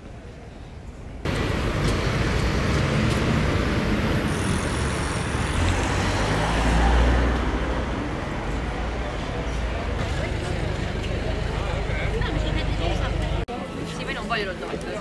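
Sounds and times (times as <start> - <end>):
heavy vehicle engine rumble: 0.4 - 13.5
passing vehicles: 1.2 - 13.5.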